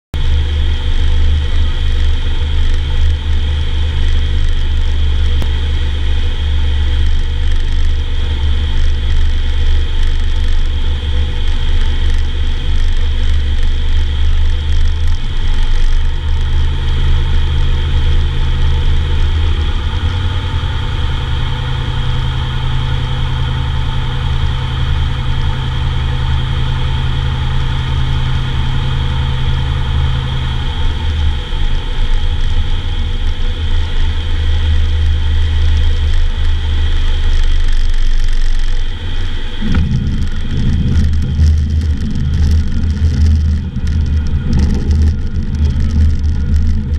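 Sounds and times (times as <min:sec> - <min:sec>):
light aircraft engine droning: 0:00.2 - 0:46.9
wind noise: 0:00.2 - 0:46.9.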